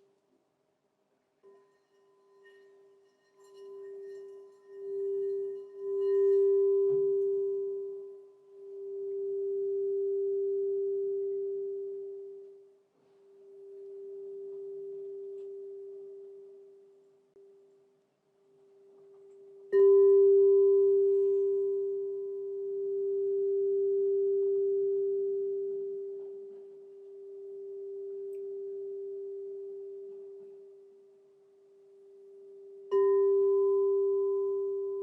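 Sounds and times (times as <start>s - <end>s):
singing bowl ringing: 1.4s - 12.8s, 13.4s - 17.0s, 19.2s - 31.1s, 32.0s - 35.0s.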